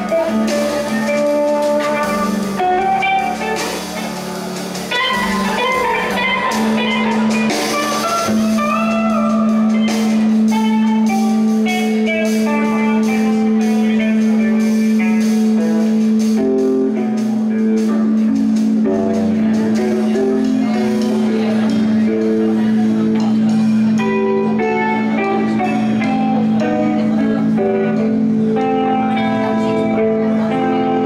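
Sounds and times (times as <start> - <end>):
drum kit with cymbals: 0.0 - 31.0
electric guitars: 0.0 - 31.0.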